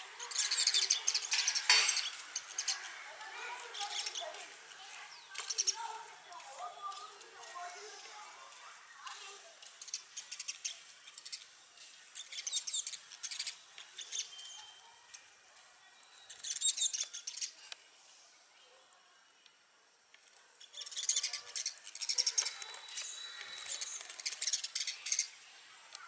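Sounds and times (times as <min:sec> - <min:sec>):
sparrows chirping: 0:00.0 - 0:18.2, 0:20.3 - 0:26.0.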